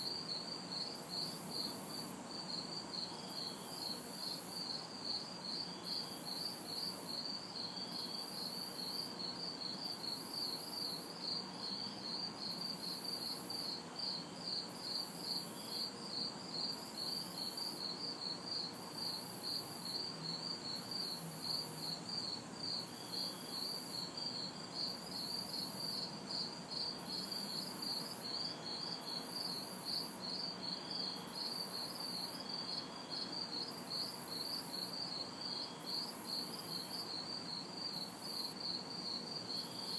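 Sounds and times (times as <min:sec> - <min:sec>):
cicadas shrill buzz: 0:00.0 - 0:39.9
crickets chirping: 0:00.0 - 0:39.9.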